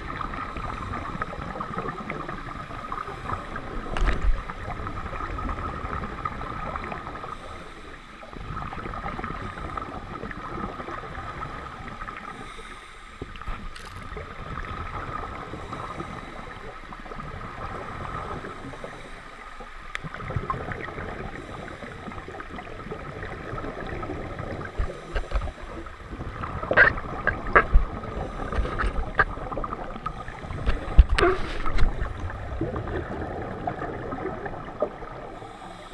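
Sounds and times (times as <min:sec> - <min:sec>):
underwater rushing with faint whine: 0:00.0 - 0:35.9.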